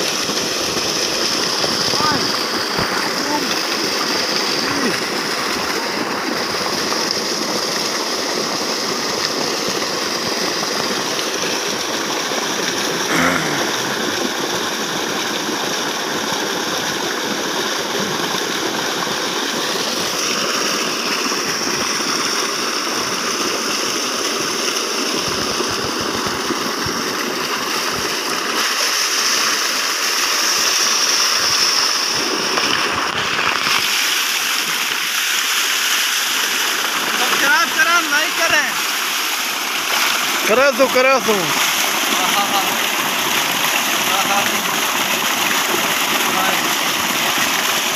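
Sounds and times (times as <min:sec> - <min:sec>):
water gushing from a pipe: 0:00.0 - 0:47.9.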